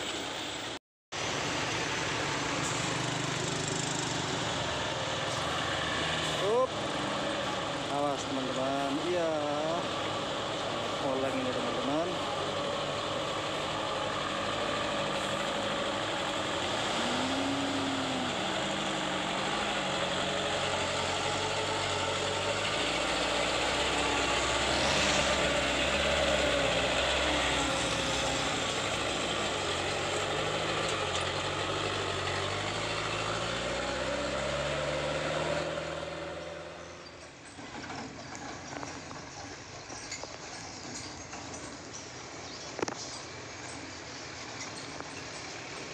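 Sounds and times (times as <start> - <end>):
diesel truck engine under load: 1.2 - 45.9.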